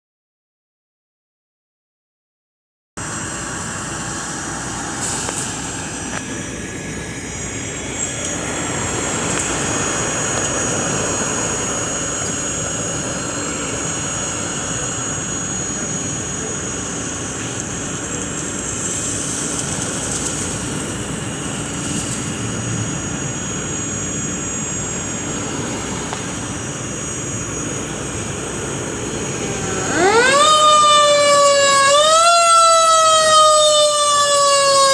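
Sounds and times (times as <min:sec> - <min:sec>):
engine rumble: 0:03.0 - 0:34.9
thin high whine: 0:03.0 - 0:34.9.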